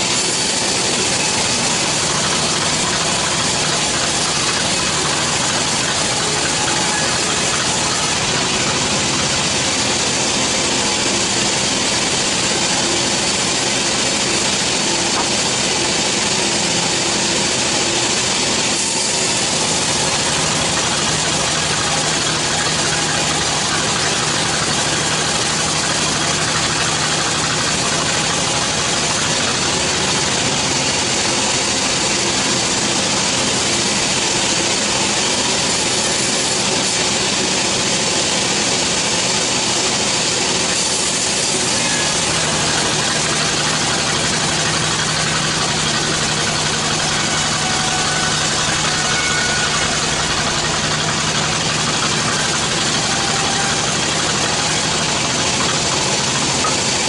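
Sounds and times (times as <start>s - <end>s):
sawmill drive humming: 0.0s - 57.0s.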